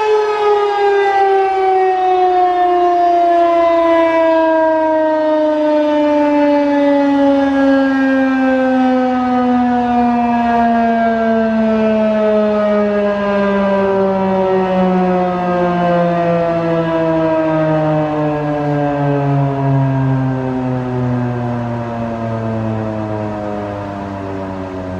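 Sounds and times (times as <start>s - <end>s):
rotating siren winding down: 0.0s - 24.9s.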